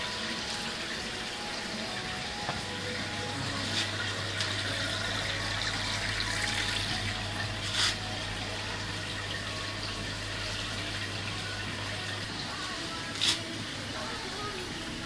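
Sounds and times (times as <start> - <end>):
filter and air pumps humming: 0.0 - 15.0
water hissing through tanks: 0.0 - 15.0.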